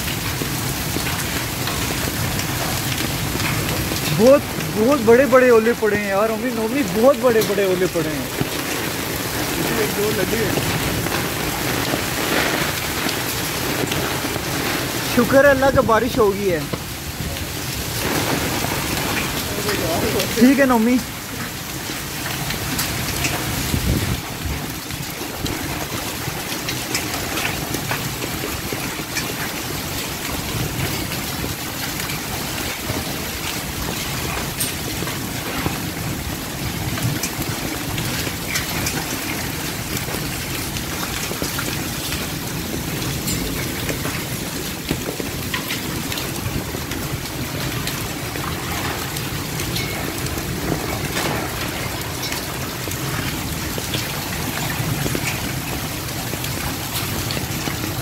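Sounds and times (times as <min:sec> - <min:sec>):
heavy rain hiss: 0:00.0 - 0:58.0
raindrops ticking on surfaces: 0:00.0 - 0:58.0.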